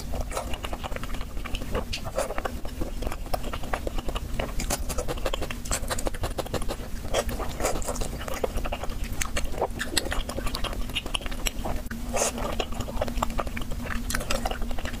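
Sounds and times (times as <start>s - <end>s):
wet chewing of noodles: 0.0s - 15.0s.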